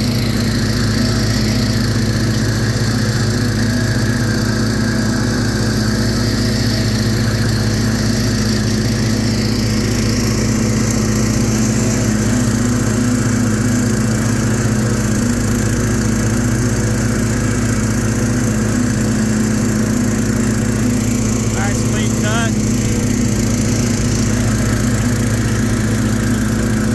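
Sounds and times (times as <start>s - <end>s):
lawn mower engine running: 0.0s - 26.9s.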